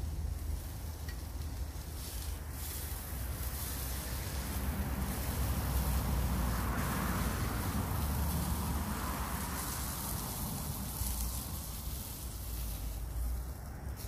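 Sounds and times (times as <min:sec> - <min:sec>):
wind rumbling on microphone: 0:00.0 - 0:14.0
meat sizzling in a frying pan: 0:00.6 - 0:13.2.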